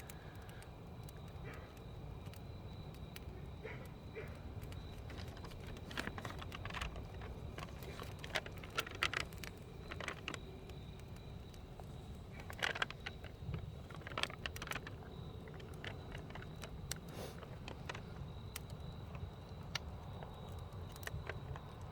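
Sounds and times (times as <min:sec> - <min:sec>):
campfire crackling and popping: 0:00.0 - 0:21.9
low fire rumble: 0:00.0 - 0:21.9.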